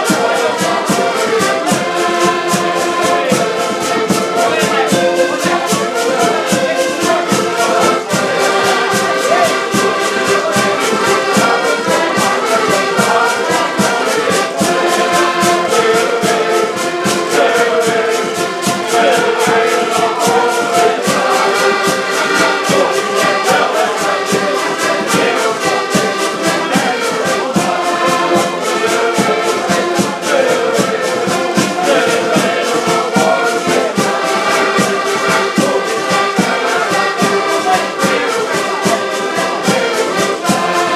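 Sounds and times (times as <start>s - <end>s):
accordions playing folk tune: 0.0s - 40.9s.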